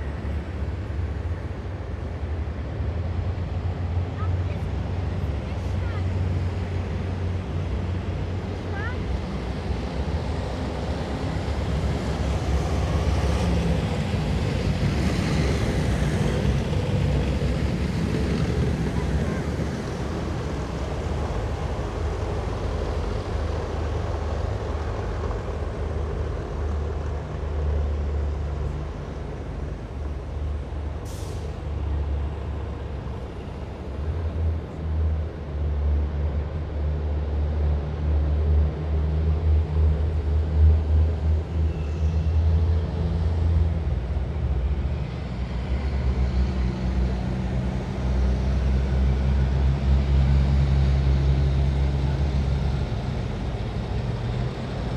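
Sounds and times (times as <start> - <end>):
heavy diesel vehicles driving past: 0.0 - 54.9.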